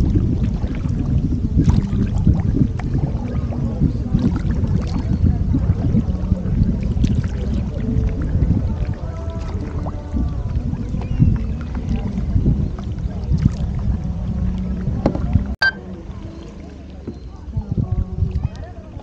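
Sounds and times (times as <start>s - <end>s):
steady low rumble: 0.0s - 16.9s
kayak paddle splashing in water: 0.0s - 18.8s.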